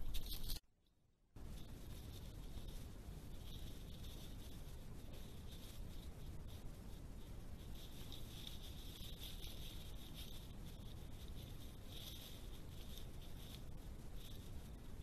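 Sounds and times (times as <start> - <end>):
background hiss: 1.4 - 15.0
leaves rustling and crackling: 1.4 - 15.0.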